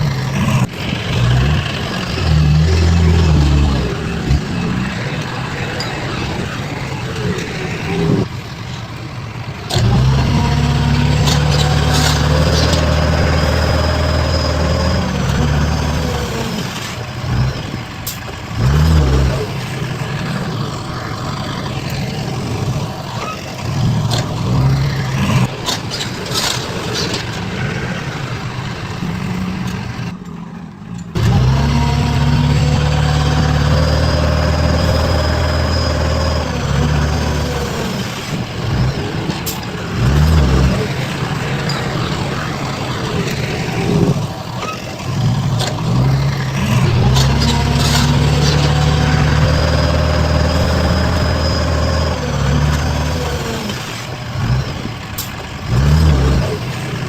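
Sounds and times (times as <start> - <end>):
heavy diesel engines revving: 0.0 - 57.0.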